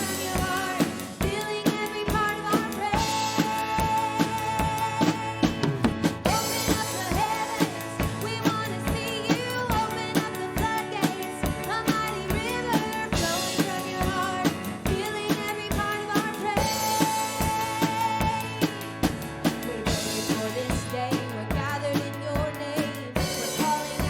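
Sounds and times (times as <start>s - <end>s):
drum kit beat: 0.0s - 24.0s
keyboard chords: 0.0s - 24.0s.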